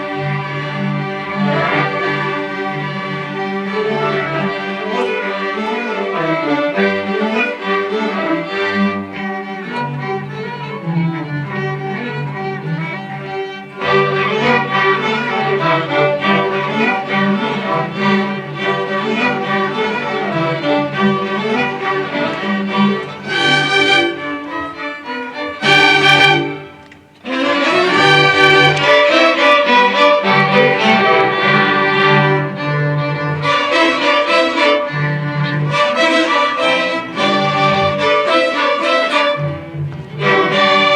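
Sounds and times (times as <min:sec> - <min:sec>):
string orchestra playing: 0:00.0 - 0:40.9.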